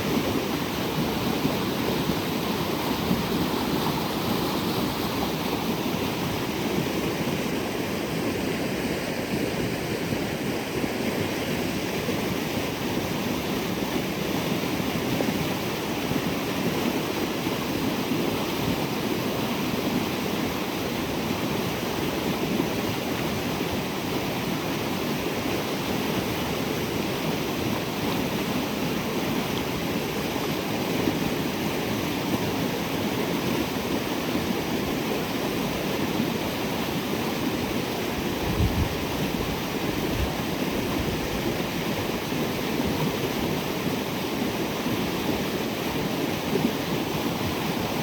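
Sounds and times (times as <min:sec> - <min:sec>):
creek water rushing: 0:00.0 - 0:48.0.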